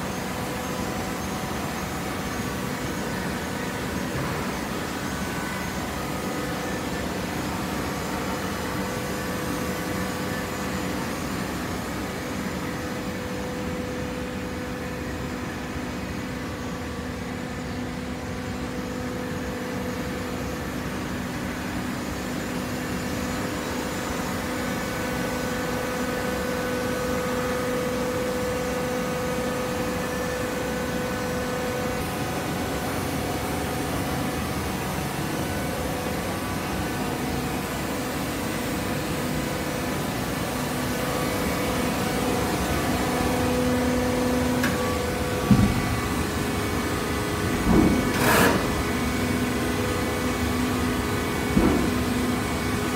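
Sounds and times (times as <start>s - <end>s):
machine hum with low whine: 0.0s - 52.9s.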